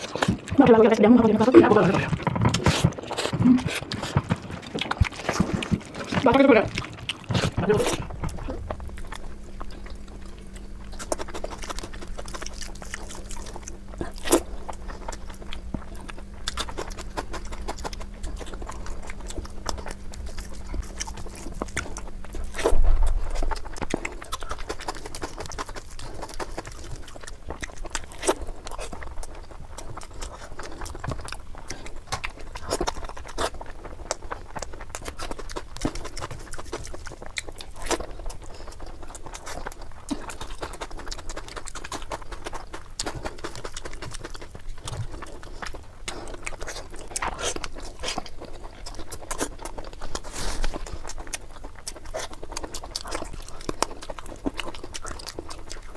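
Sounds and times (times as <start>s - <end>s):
faint steady hum: 0.0s - 55.9s
person chewing food: 0.0s - 55.9s.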